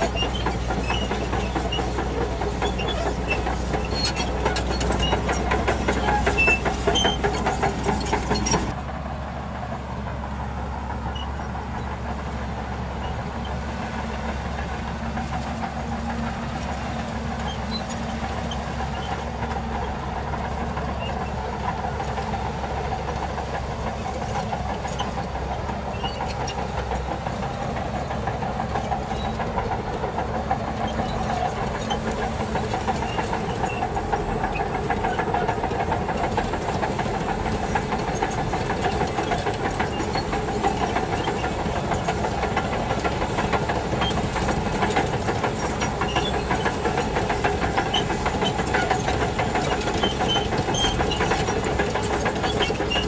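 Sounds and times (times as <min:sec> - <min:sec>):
rapid clatter of tracks: 0:00.0 - 0:08.8, 0:10.6 - 0:53.0
bulldozer diesel engine under load: 0:00.0 - 0:53.0.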